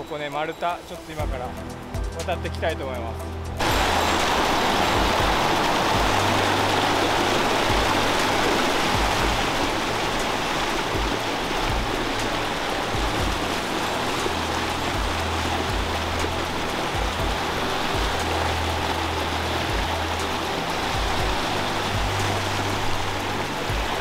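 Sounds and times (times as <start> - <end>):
stream rushing over rocks: 3.6 - 24.0.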